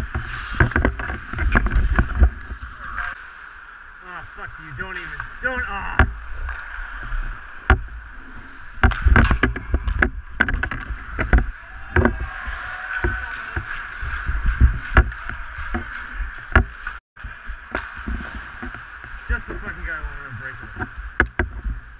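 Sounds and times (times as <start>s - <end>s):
hockey sticks and puck clacking: 0.0s - 3.4s, 4.5s - 21.9s
skates scraping on ice: 0.0s - 3.5s, 4.6s - 21.9s.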